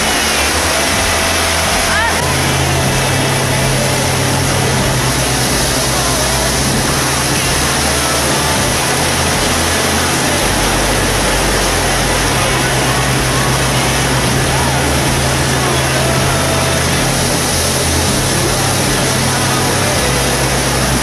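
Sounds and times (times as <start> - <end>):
motorboat engine drone: 0.0 - 21.0
rush of wind and water: 0.0 - 21.0.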